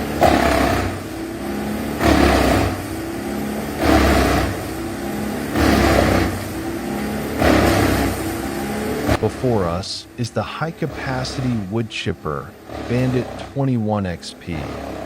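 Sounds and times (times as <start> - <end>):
wood chipper running: 0.0 - 15.0.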